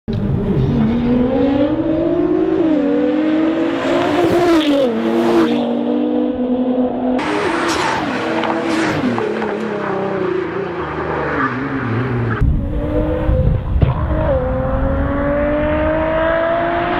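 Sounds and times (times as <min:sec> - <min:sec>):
car engine accelerating hard: 0:00.1 - 0:16.9.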